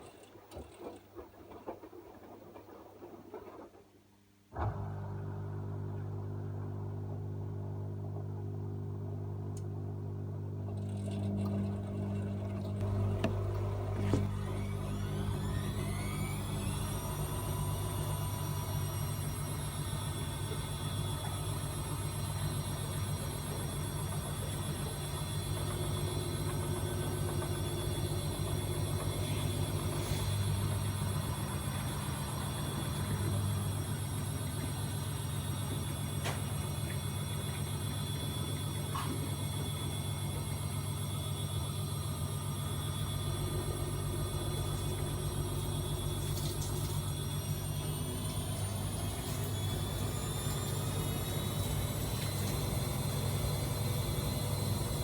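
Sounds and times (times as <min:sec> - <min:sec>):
washing machine motor hum: 0:04.5 - 0:55.0
motor whine: 0:04.6 - 0:55.0.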